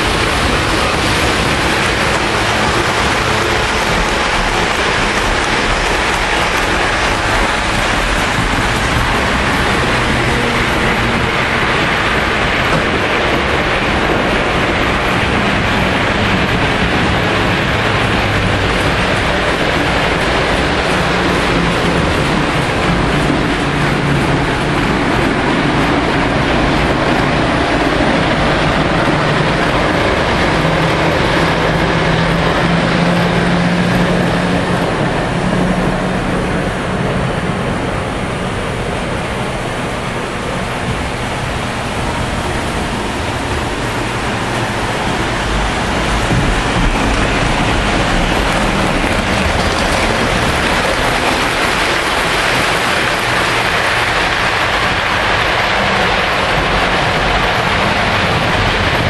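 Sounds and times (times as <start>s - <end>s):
model train rolling on track: 0.0s - 59.0s.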